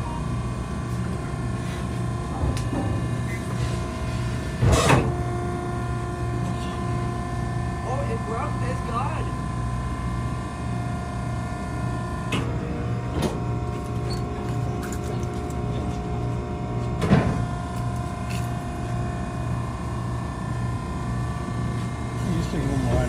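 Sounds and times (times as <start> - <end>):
hydraulic power unit humming: 0.0 - 23.0.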